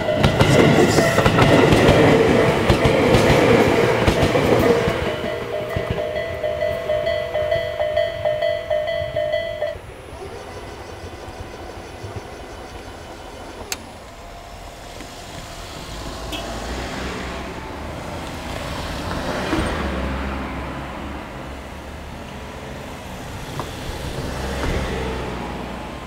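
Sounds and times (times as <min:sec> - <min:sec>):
cars passing over level crossing: 0:00.0 - 0:26.0.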